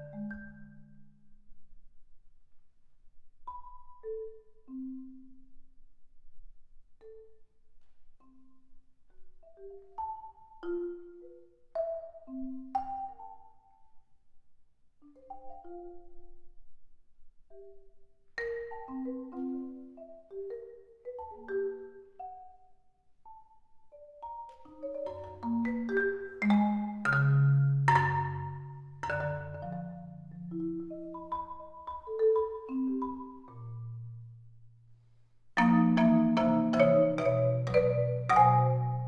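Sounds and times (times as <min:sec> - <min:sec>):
solo marimba: 0:00.0 - 0:01.5, 0:03.4 - 0:05.8, 0:07.0 - 0:14.1, 0:15.0 - 0:34.6, 0:35.6 - 0:39.0.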